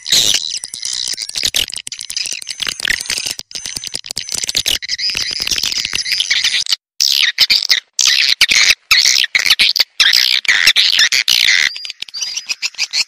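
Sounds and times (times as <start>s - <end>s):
swiftlets twittering and chirping: 0.0s - 13.0s.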